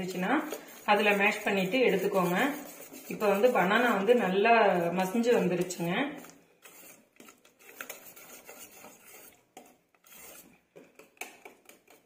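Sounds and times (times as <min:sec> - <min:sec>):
whisk scraping metal pot: 0:00.0 - 0:12.0.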